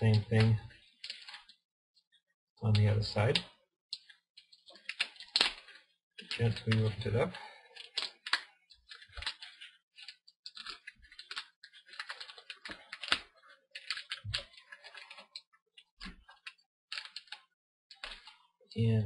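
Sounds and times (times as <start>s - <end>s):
small clicks and scratchy crackles: 0.0s - 2.2s, 3.3s - 7.0s, 7.7s - 18.6s.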